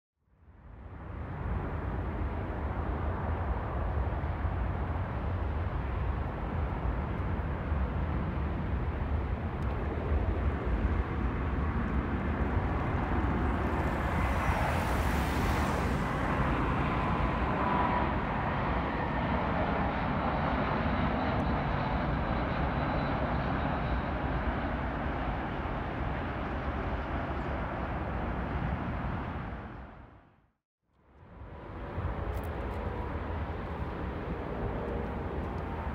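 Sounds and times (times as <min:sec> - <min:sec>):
jet engine rumble: 0:00.6 - 0:30.3, 0:31.2 - 0:35.9.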